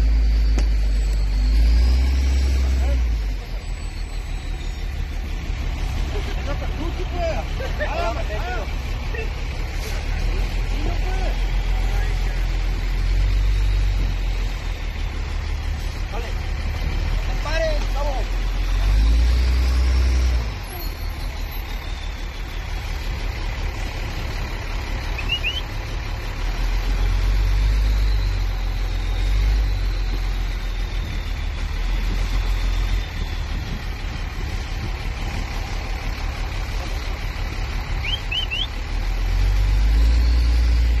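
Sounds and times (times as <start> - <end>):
farm vehicle engine rumble: 0.0 - 41.0.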